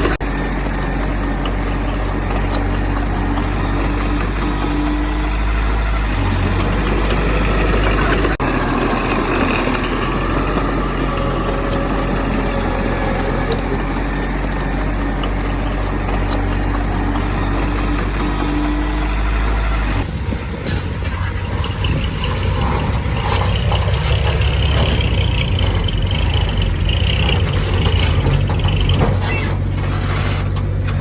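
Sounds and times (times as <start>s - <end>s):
heavy diesel engine rumbling: 0.0s - 31.0s.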